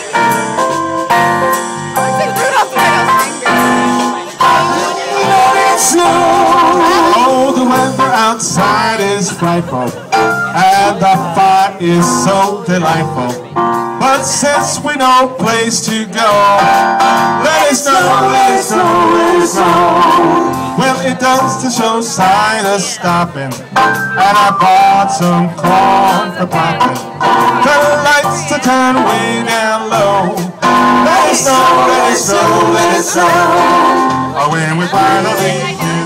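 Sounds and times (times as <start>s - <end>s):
live band playing: 0.0s - 36.0s
person singing: 2.4s - 36.0s.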